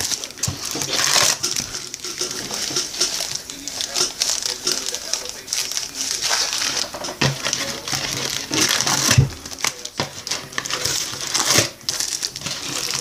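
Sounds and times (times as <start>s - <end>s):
wax paper packs crinkling: 0.0s - 13.0s.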